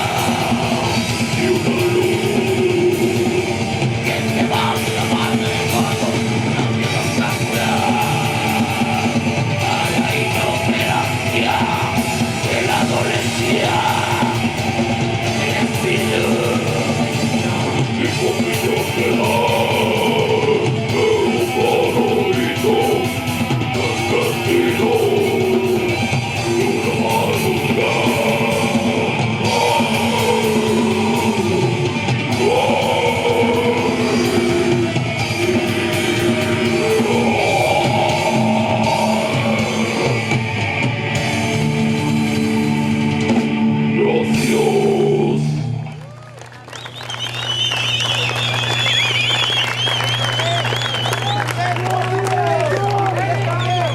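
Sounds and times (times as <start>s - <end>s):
rock band playing heavy rock: 0.0s - 45.9s
pitch-bending guitar lines: 0.0s - 46.0s.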